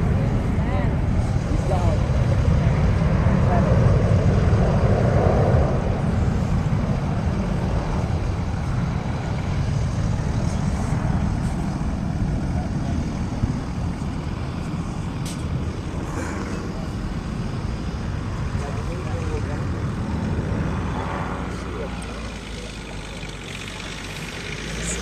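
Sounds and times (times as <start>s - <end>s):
aircraft engine roar: 0.0s - 25.0s.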